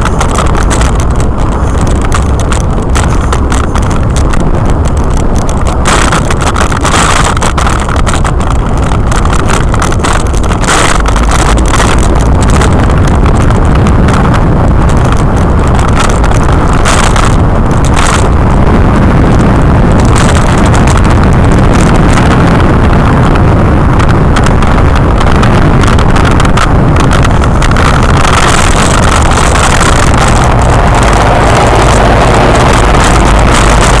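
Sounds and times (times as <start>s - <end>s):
truck engine and tyre noise: 0.0s - 34.0s
wind rumble on microphone: 0.0s - 34.0s.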